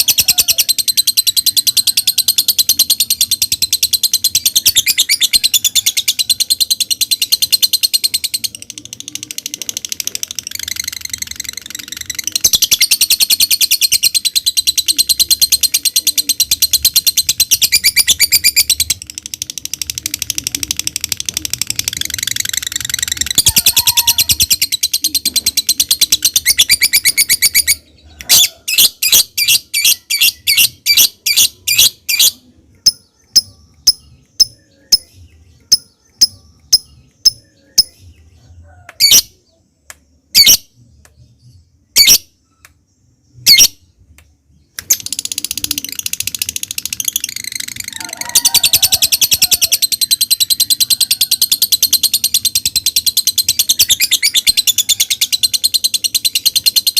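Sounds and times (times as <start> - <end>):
bird shrill rapid chattering: 0.0 - 8.6, 9.7 - 35.1, 44.8 - 56.9.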